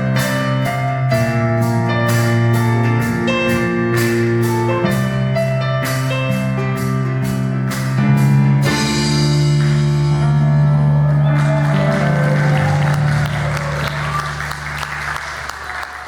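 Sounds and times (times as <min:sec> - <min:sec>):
piano and band chords: 0:00.0 - 0:16.0.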